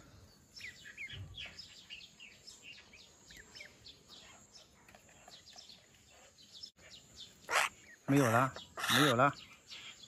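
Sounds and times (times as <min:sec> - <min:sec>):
faint small birds chirping: 0:00.0 - 0:10.0.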